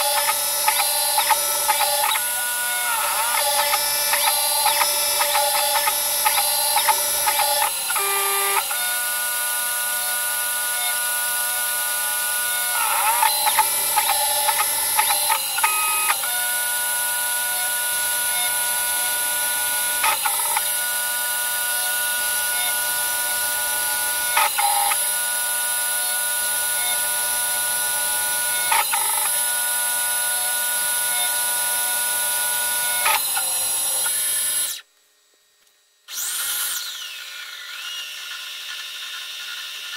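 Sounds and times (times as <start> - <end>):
milling machine high-pitched whine: 0.0 - 34.8.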